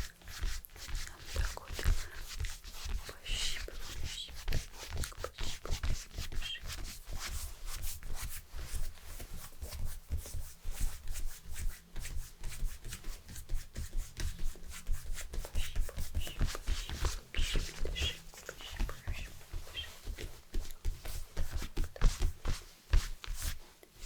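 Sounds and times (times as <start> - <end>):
hands rubbing in massage strokes: 0.0 - 24.0.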